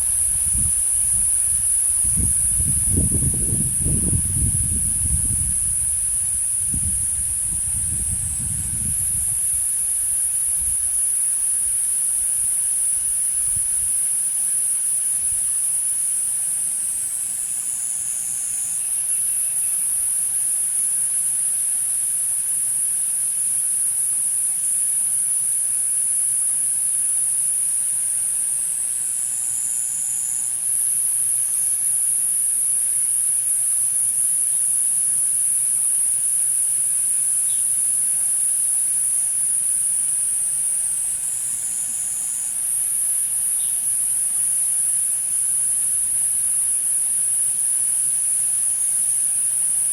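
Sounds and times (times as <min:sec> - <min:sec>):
cicadas droning: 0:00.0 - 0:49.9.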